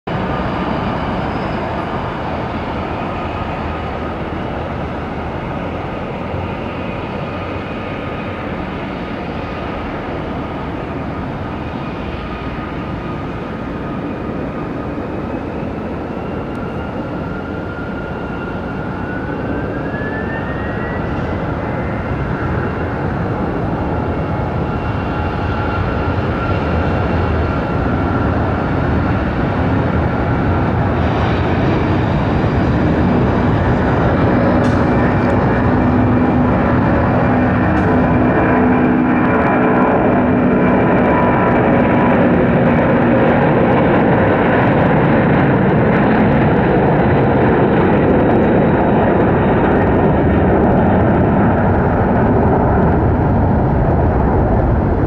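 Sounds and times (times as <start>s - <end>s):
jet engines roaring with whine: 0.1s - 55.0s.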